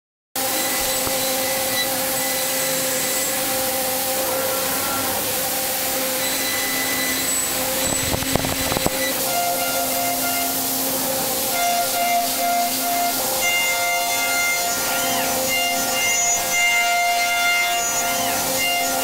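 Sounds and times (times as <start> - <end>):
milling machine spindle whine: 0.4 - 19.0.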